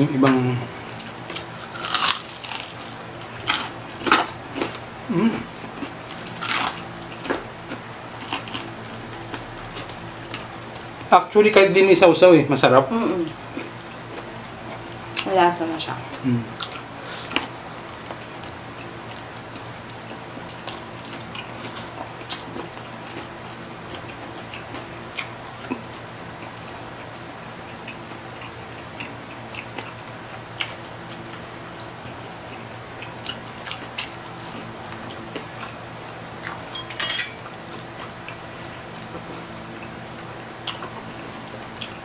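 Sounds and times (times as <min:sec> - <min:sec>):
steady low hum: 0:00.0 - 0:42.0
people chewing: 0:00.3 - 0:11.1, 0:12.9 - 0:15.3, 0:16.1 - 0:36.8, 0:37.5 - 0:42.0.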